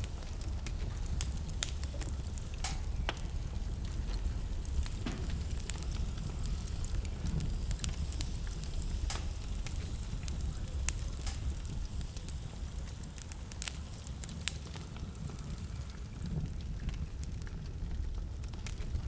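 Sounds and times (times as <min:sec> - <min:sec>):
fire crackling and popping: 0:00.0 - 0:19.0
low rumble of flame: 0:00.0 - 0:19.0.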